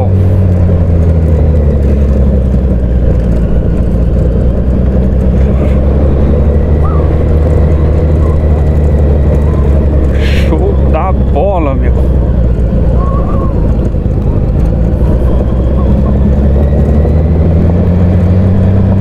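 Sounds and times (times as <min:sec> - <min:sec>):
motorcycle engine at low revs: 0:00.0 - 0:19.0
tyres rumbling on cobbles: 0:00.0 - 0:19.0.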